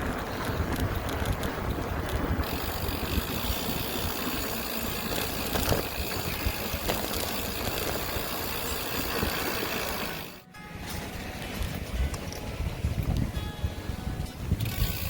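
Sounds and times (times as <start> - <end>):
wind buffeting microphone: 0.0 - 10.4, 11.0 - 15.0
bicycle road noise: 0.0 - 15.0.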